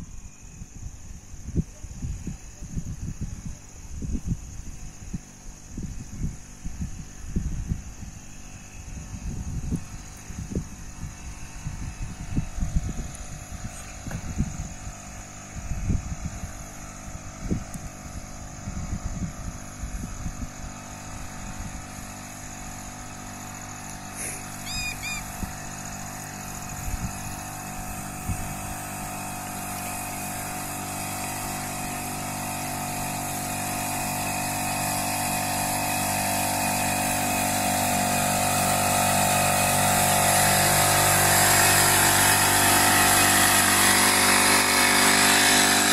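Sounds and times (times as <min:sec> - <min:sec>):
small petrol engine running: 0:00.0 - 0:45.9.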